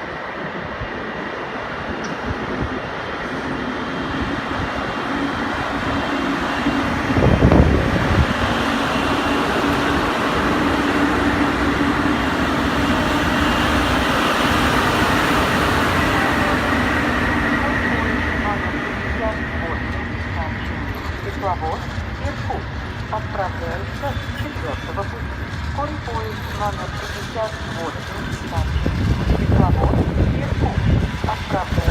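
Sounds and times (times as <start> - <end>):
train rumbling on rails: 0.0 - 31.9.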